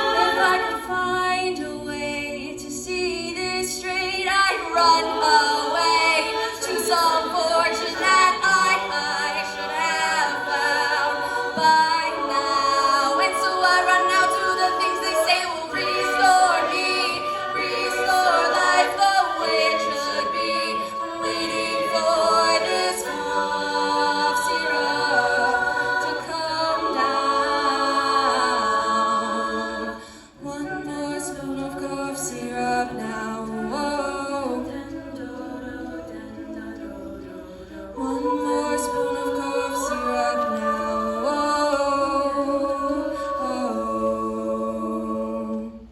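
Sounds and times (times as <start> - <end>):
a cappella voices in harmony: 0.0 - 45.9.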